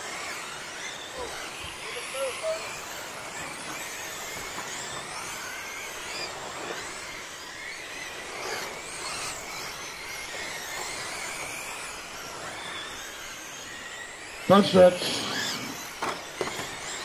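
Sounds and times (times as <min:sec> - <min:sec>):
rc truck motors whining: 0:00.0 - 0:17.0.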